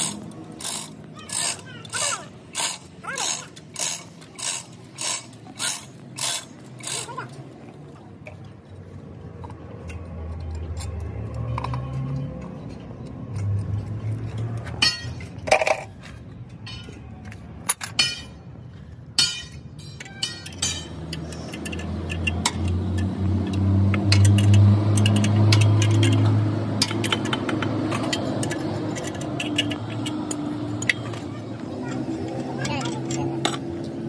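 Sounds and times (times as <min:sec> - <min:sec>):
metal tools clinking on engine parts: 0:00.0 - 0:34.0.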